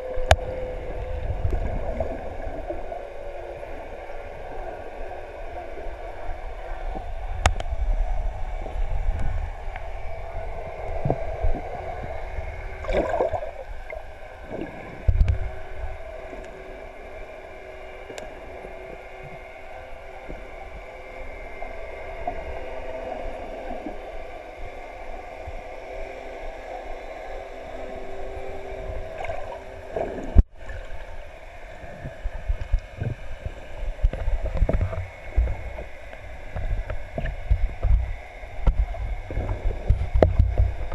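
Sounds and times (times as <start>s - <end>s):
underwater rumble and gurgling: 0.0s - 40.9s.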